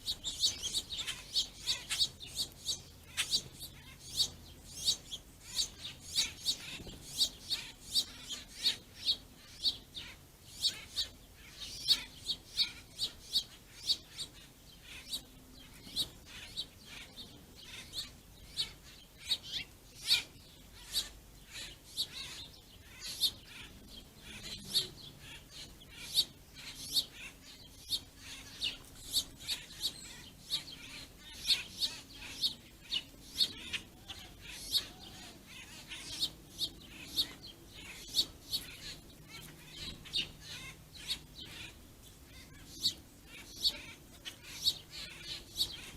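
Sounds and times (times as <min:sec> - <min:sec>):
small songbirds chirping: 0:00.0 - 0:45.9.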